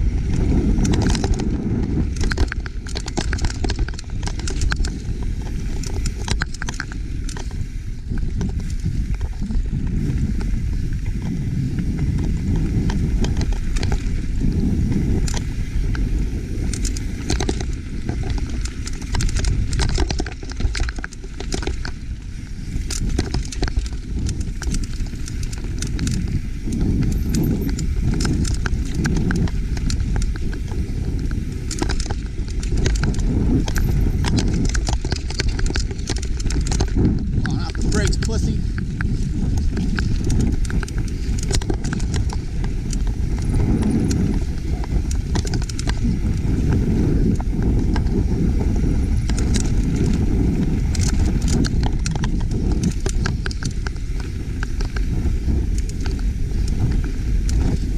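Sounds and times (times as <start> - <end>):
bike rattling over rocks: 0.0 - 57.9
tyres rumbling on dirt: 0.0 - 57.9.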